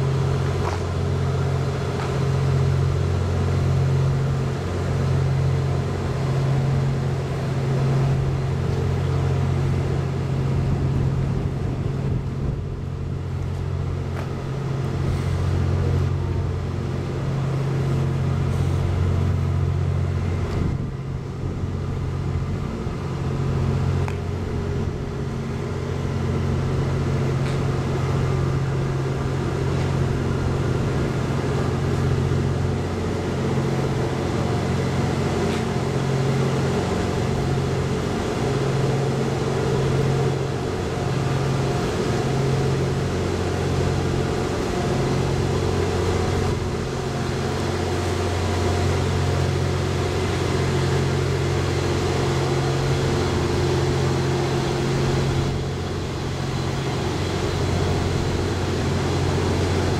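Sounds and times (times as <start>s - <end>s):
idling diesel train hum: 0.0s - 59.9s.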